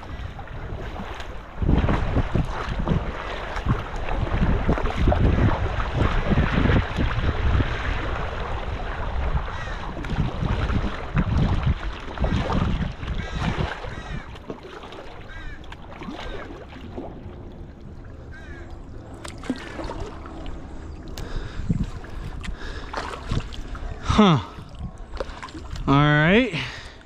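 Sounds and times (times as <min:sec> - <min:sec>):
wind buffeting microphone: 0:00.0 - 0:26.9
kayak paddling on water: 0:00.0 - 0:27.0.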